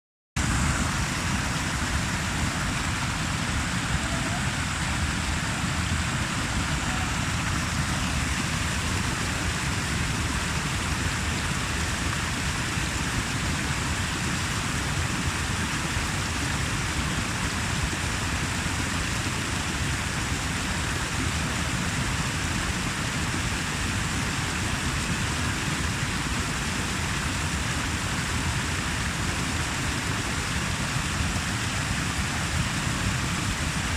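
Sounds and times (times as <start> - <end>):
running water rushing: 0.4 - 33.9.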